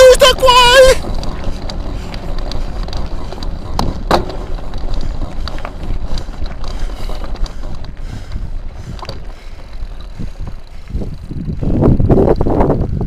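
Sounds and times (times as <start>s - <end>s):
vehicle rumble and rattle: 0.0s - 13.0s
wind on microphone: 0.9s - 13.0s.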